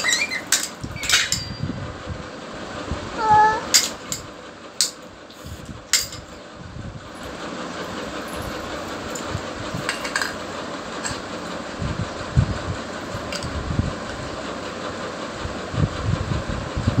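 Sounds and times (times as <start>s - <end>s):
steady machine noise: 0.0s - 17.0s.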